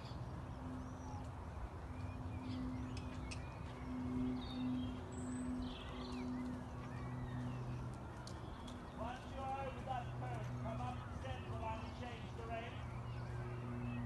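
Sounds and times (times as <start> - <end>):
birds chirping: 0.0 - 14.0
low outdoor rumble: 0.0 - 14.0.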